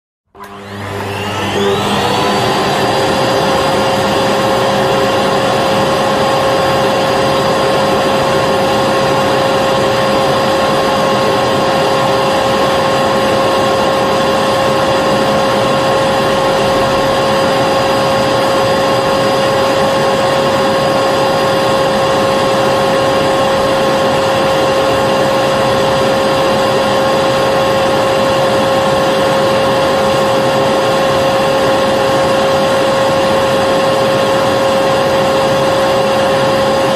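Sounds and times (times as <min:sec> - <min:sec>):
vacuum cleaner running: 0:00.3 - 0:36.9.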